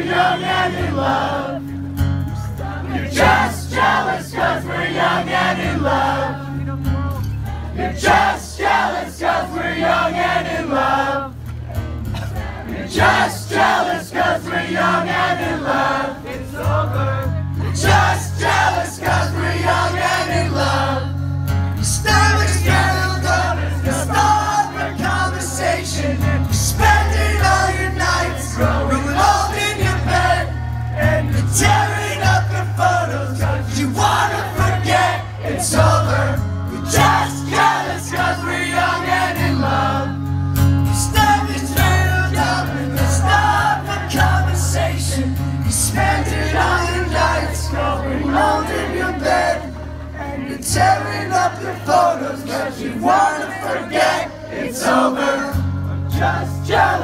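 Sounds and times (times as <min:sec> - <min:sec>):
acoustic guitar through speakers: 0:00.0 - 0:57.0
crowd singing along: 0:00.0 - 0:57.0.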